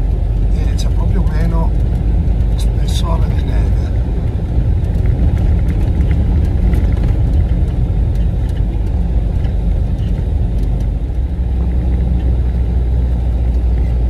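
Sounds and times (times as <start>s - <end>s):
truck engine and tyres rumbling: 0.0s - 14.0s.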